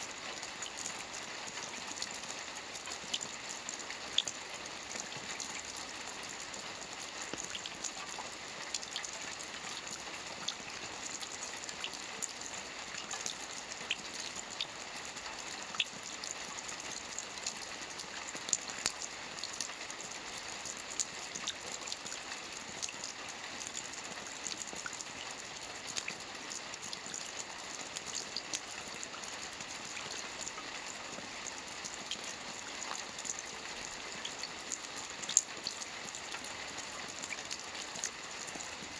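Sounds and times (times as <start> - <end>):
light rain on a roof: 0.0 - 38.9
raindrops ticking: 0.1 - 38.9.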